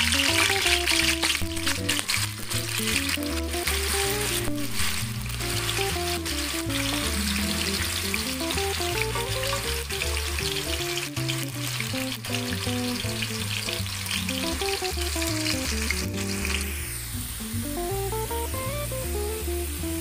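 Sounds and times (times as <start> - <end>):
fries frying in hot oil: 0.0 - 20.0
melodic background music: 0.0 - 20.0.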